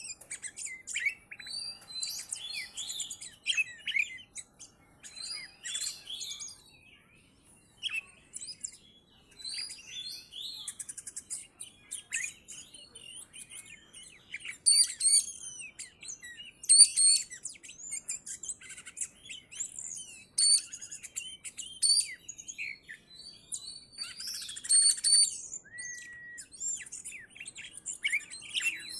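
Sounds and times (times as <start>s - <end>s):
songbird whistles and trills: 0.0s - 28.9s.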